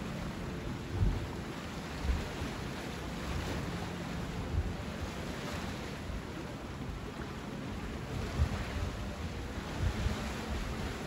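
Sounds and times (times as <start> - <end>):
sea surf washing on shore: 0.0 - 11.0
wind gusting on microphone: 0.0 - 11.0.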